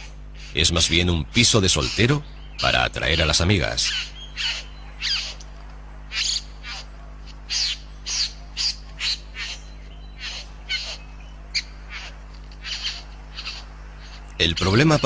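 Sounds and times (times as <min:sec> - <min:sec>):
faint low hum: 0:00.0 - 0:15.0
bird calling sharp descending notes: 0:01.4 - 0:15.0.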